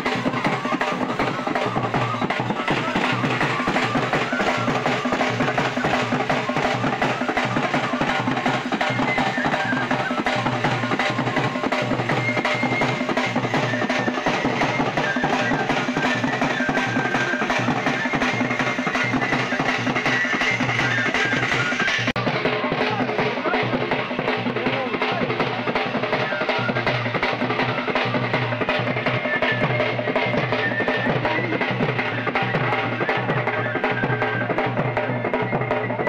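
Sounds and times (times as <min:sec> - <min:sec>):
drums playing folk dance rhythm: 0:00.0 - 0:36.0.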